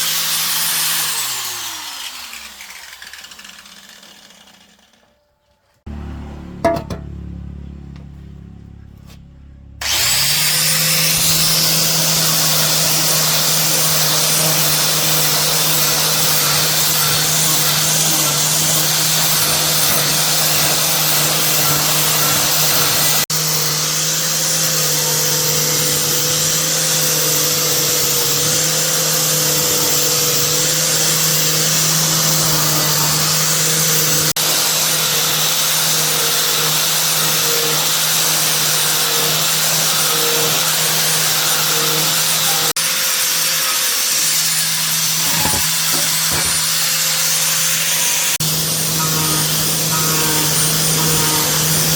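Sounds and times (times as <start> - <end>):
electric motor humming and whining: 5.9 - 51.9.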